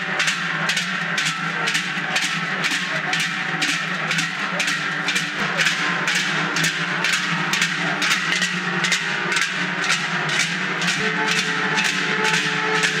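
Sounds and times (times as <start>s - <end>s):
large cowbells clanging rhythmically: 0.0s - 13.0s.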